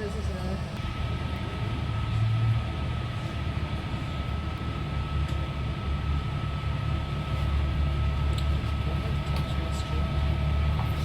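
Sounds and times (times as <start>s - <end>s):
train engine low rumble: 0.0s - 11.0s.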